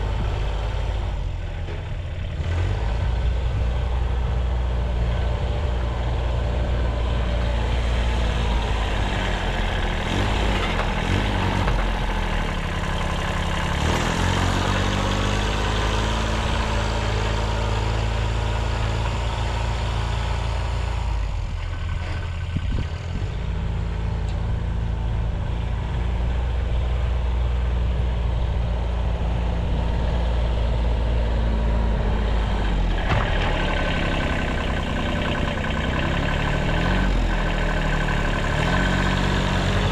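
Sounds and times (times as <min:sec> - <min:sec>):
diesel tractor engine revving: 0:00.0 - 0:39.9.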